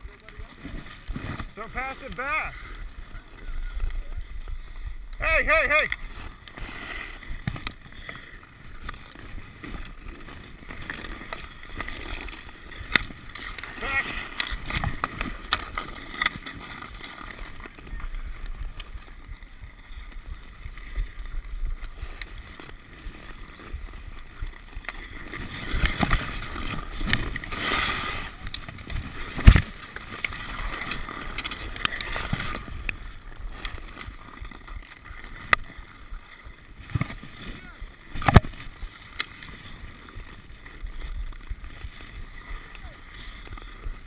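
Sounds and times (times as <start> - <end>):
ice skates scraping ice: 0.0 - 44.0
hockey sticks clicking: 5.1 - 44.0.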